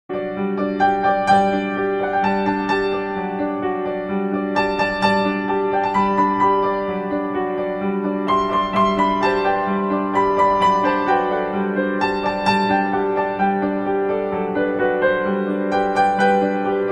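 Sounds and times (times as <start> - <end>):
slow sad piano music: 0.1 - 16.9.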